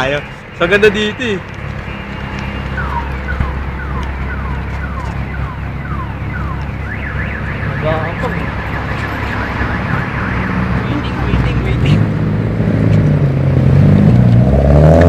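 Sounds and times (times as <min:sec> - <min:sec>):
car alarm chirps and warble: 0:00.0 - 0:12.1
low engine rumble: 0:00.0 - 0:14.5.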